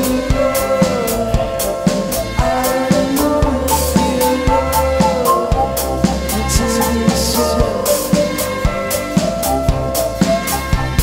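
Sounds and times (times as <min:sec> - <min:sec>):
live synth-pop band playing: 0:00.0 - 0:11.0.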